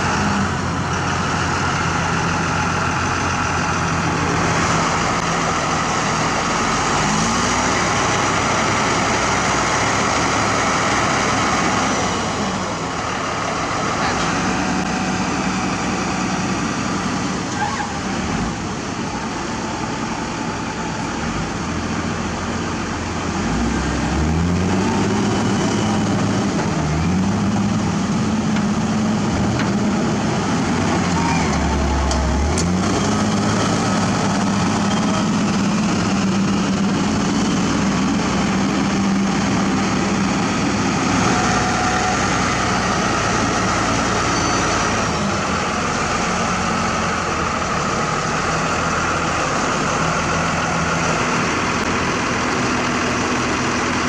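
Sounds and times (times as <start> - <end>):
diesel engines running: 0.0 - 54.0
wheel loader engine revving: 0.0 - 54.0.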